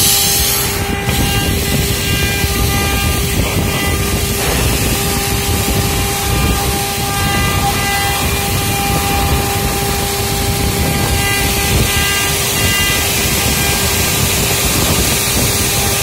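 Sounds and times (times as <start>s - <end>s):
router bit cutting wood: 0.0s - 16.0s
router spindle whining: 0.0s - 16.0s.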